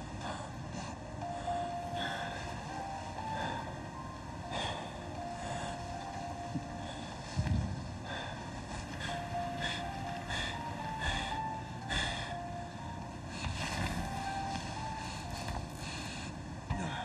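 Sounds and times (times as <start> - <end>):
escalator mechanical drone: 0.0 - 17.0.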